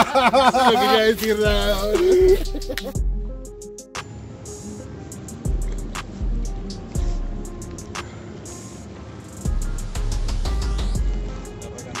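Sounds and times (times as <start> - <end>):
music with sustained tones: 0.0 - 12.0.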